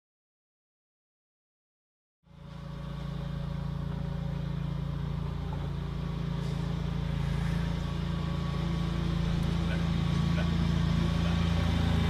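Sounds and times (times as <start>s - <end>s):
car engine idling: 2.3s - 12.0s.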